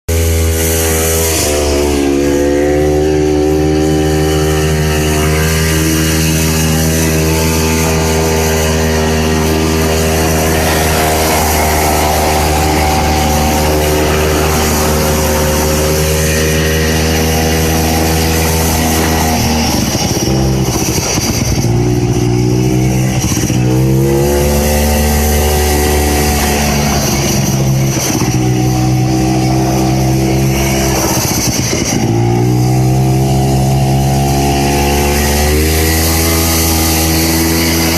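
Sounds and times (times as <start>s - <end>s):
snowmobile engine revving: 0.1s - 37.9s.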